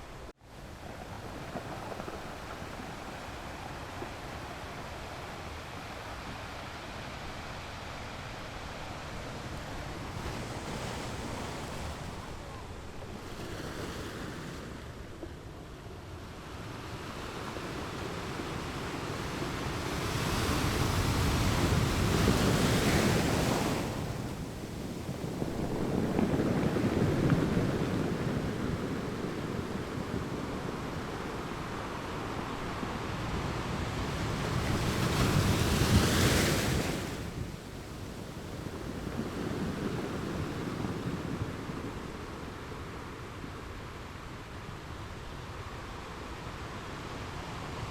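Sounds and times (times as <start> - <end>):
ocean waves washing: 0.0 - 47.9.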